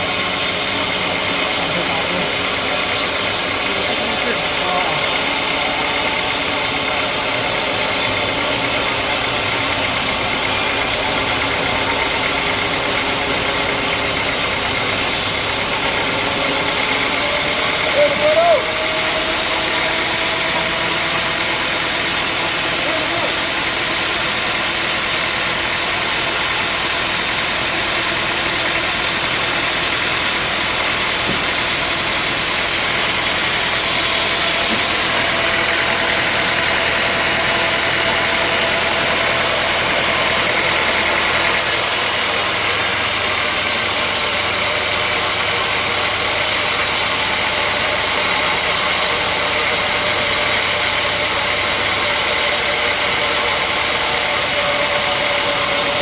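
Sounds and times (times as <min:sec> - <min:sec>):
sawmill machinery engine drone: 0:00.0 - 0:56.0.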